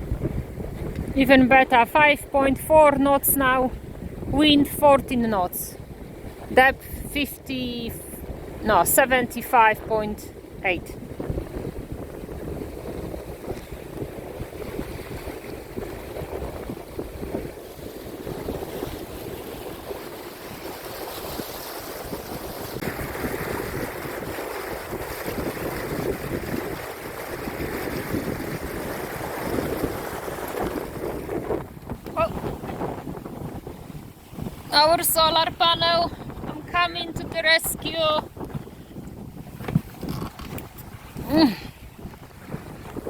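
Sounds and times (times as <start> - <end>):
water rushing along hull: 0.0 - 43.0
wind buffeting microphone: 0.0 - 43.0.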